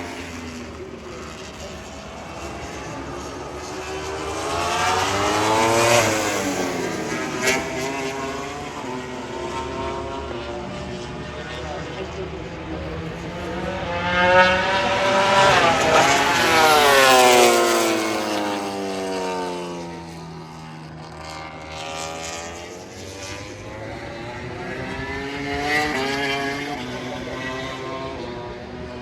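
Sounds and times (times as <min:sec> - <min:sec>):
racing motorcycles passing: 0:00.0 - 0:29.0.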